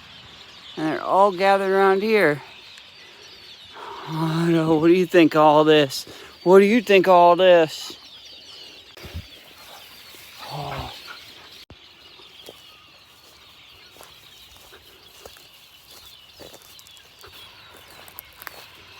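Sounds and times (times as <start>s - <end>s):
flock of birds chirping: 0.0s - 18.9s.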